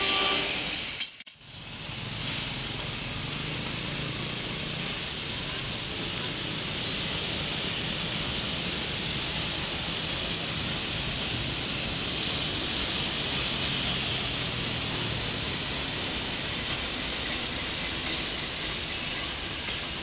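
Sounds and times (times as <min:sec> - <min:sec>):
road traffic noise: 0:00.0 - 0:20.0
train rumbling over bridge: 0:00.0 - 0:20.0.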